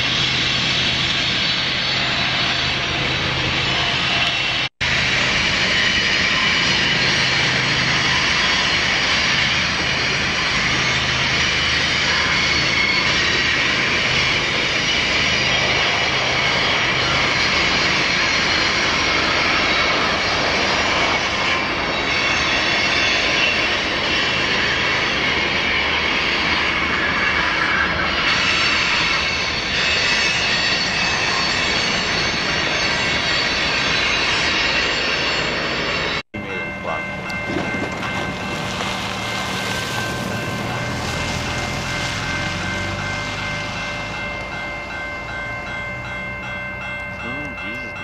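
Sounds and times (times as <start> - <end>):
locomotive engines thrumming: 0.0 - 48.0.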